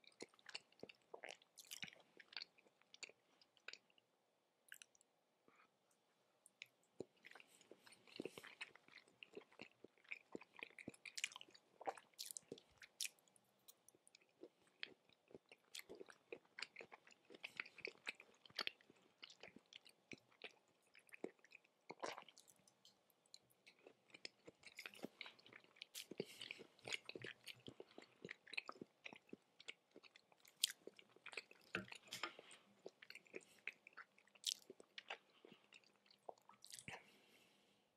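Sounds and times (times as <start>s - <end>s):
chewing with mouth clicks: 0.0s - 4.0s, 6.5s - 37.1s.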